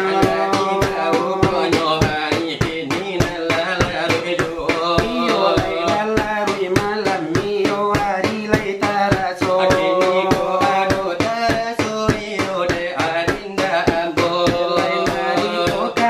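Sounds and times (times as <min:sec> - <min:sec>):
fingers beating brass tray: 0:00.0 - 0:16.0
singers chanting: 0:00.0 - 0:16.0.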